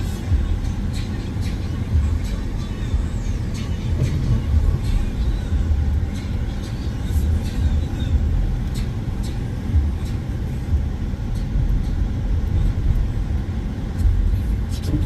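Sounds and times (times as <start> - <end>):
tyres and drivetrain rumbling: 0.0 - 15.0.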